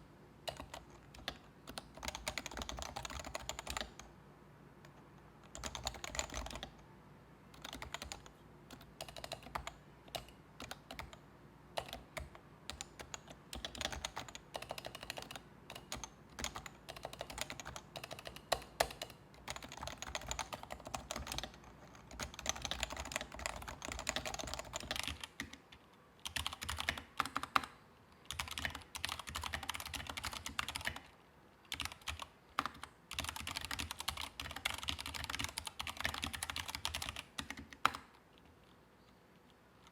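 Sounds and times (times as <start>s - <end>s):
typing on keyboard: 0.4s - 4.1s, 5.4s - 6.8s, 7.6s - 11.2s, 11.8s - 31.1s, 31.7s - 38.8s
typing on mechanical keyboard: 0.5s - 4.1s, 5.4s - 6.8s, 7.6s - 11.2s, 11.8s - 31.1s, 31.7s - 38.7s.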